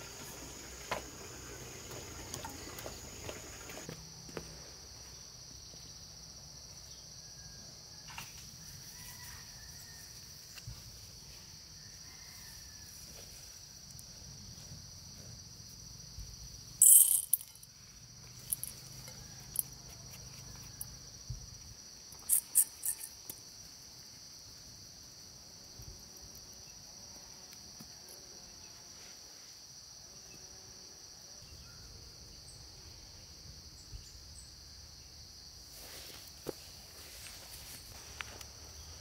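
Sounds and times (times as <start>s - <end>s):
insects chirring: 0.0s - 39.0s.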